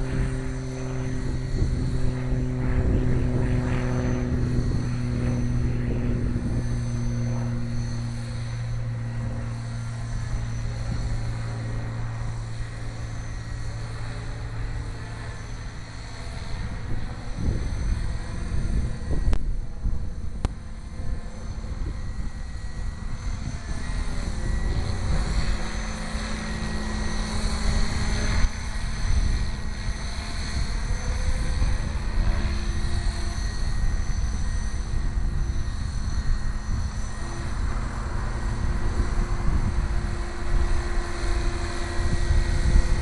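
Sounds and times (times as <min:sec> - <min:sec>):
electric motor whine: 0:00.0 - 0:43.0
helicopter rotor blades whirring: 0:00.0 - 0:43.0.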